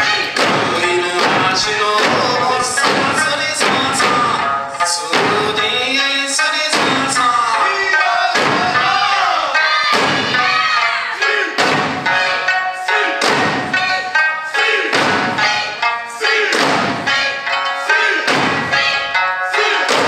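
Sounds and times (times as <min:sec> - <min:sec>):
heavy drum strokes: 0:00.0 - 0:17.2, 0:18.1 - 0:18.9
lute folk melody: 0:00.0 - 0:20.0.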